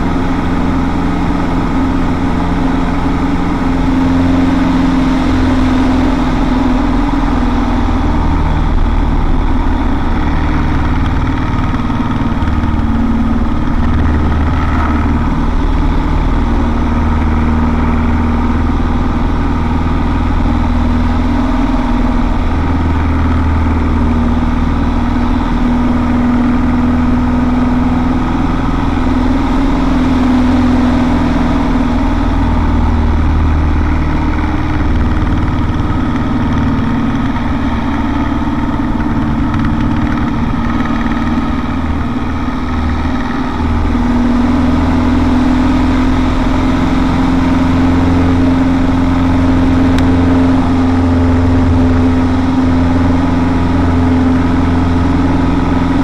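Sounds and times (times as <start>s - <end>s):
aircraft engine and propeller: 0.0s - 56.0s.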